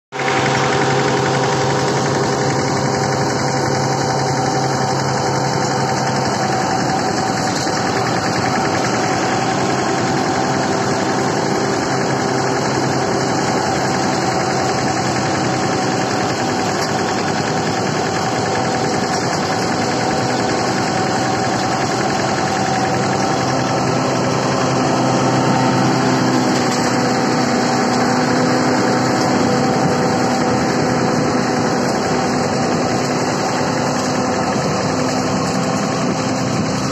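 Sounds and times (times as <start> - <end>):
diesel tractor engine running: 0.1 - 36.9
thresher mechanical whirr: 0.2 - 36.9.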